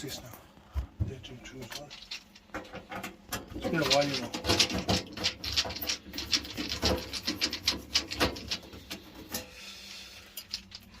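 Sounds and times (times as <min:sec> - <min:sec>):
hand tools scraping metal parts: 0:01.6 - 0:11.0.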